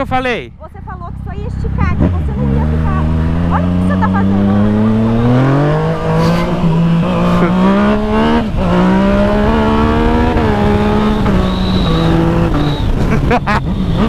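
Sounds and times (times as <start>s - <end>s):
motorcycle engine accelerating: 0.7s - 14.0s
wind rushing past microphone: 1.7s - 14.0s.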